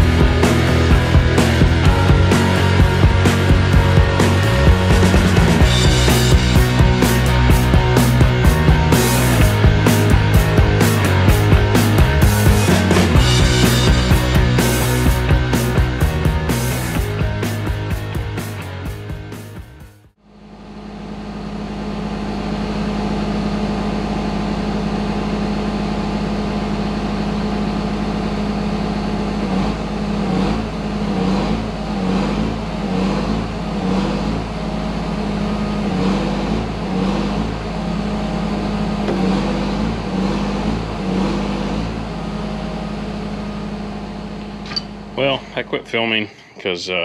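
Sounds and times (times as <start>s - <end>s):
engine running pulsing: 0.0s - 46.6s.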